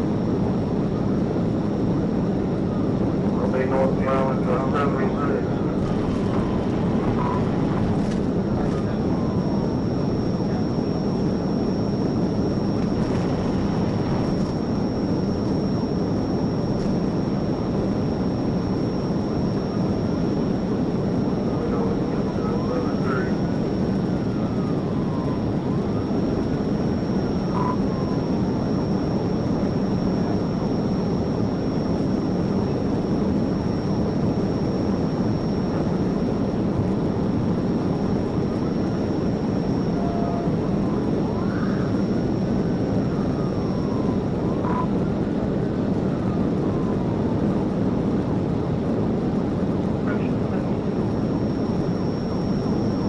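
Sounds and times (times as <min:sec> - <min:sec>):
thin high whine: 0:00.0 - 0:53.0
faint siren wailing: 0:05.2 - 0:48.8.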